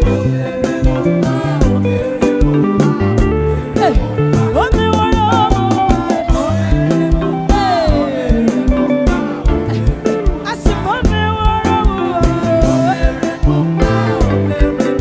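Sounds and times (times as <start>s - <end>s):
gospel music with drums and bass: 0.0s - 15.0s
person singing: 0.0s - 15.0s.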